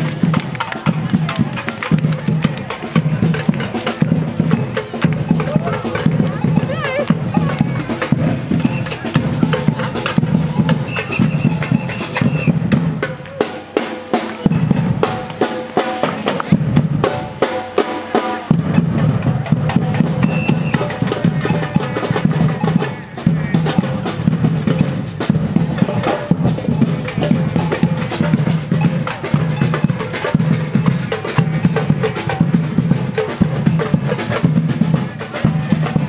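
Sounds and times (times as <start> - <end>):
marching drum line: 0.0 - 36.0.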